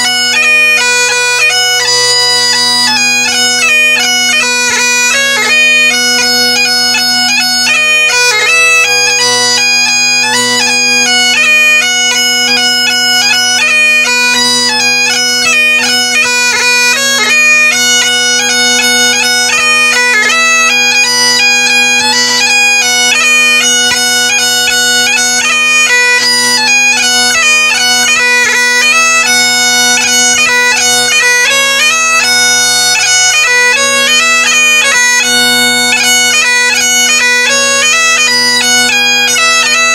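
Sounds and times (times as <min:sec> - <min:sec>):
bagpipe chanter melody: 0:00.0 - 0:39.9
bagpipe drones humming: 0:00.0 - 0:39.9.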